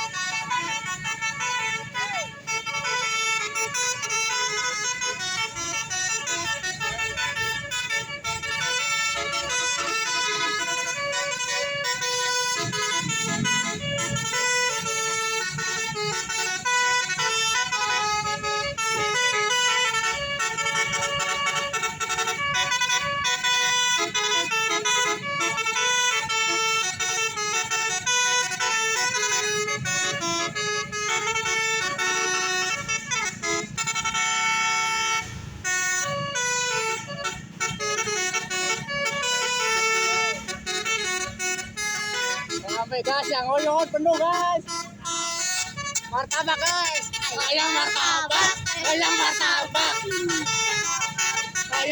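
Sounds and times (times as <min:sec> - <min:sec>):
musical bus air horn melody: 0:00.0 - 0:51.9.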